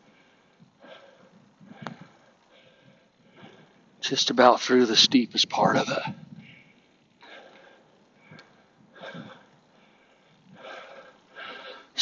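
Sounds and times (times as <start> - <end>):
cyclist breathing hard: 0.0 - 4.0, 6.1 - 12.0.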